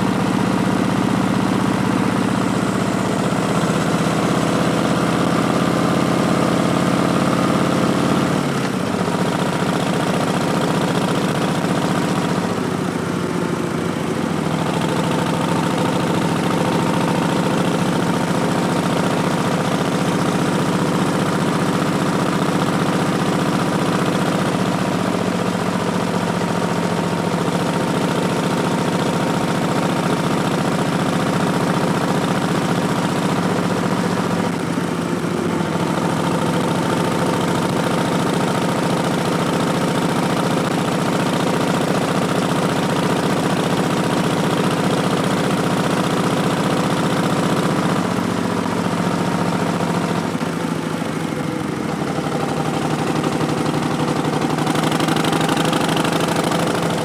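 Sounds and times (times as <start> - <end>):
motorcycle engine pulsing exhaust: 0.0 - 57.0.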